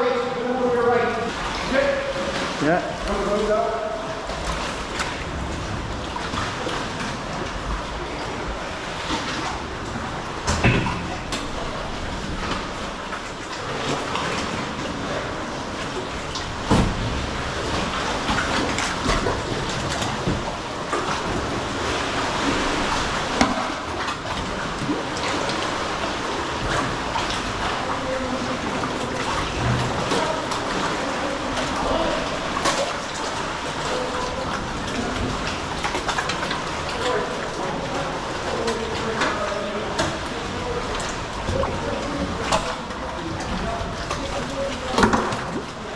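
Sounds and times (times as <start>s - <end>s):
water sloshing from paddling: 0.0s - 45.9s.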